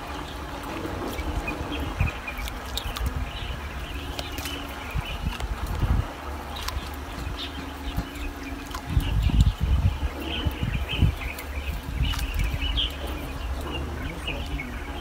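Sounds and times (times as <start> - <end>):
birds chirping: 0.0 - 15.0
wind buffeting microphone: 0.0 - 15.0.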